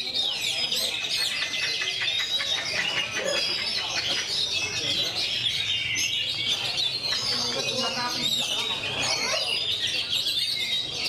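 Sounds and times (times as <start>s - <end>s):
magpie-robin singing: 0.0s - 11.0s.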